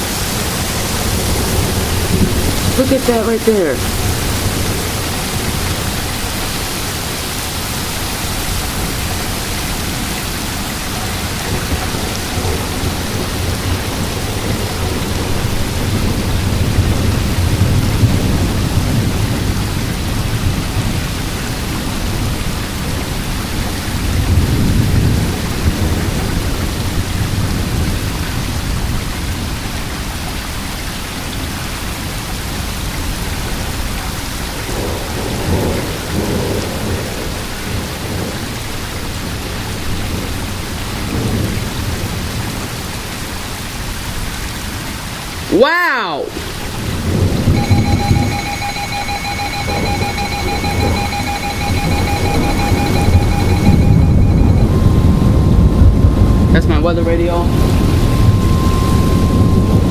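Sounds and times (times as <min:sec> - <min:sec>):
thunder rumbles: 0:00.0 - 0:03.0, 0:03.7 - 0:29.8, 0:32.5 - 0:44.9, 0:46.3 - 0:59.9
heavy rain and strong wind: 0:00.0 - 0:59.9.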